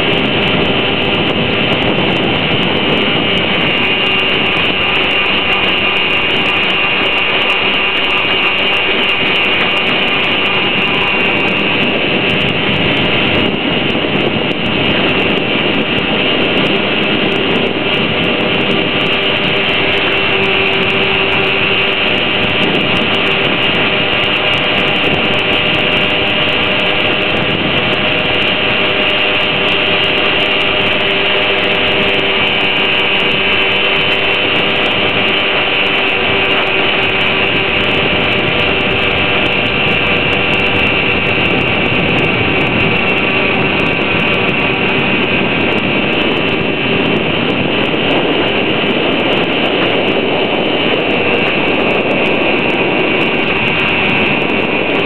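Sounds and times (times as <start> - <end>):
electric motor whine: 0.0 - 55.0
water rushing along hull: 0.0 - 55.0.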